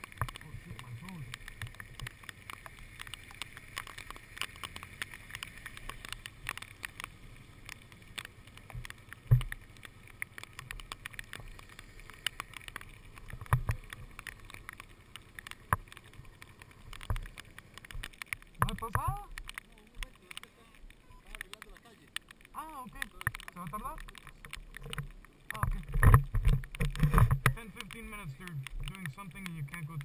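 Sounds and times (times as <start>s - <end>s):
camera and bike clicks and knocks: 1.3s - 22.5s, 23.2s - 28.0s.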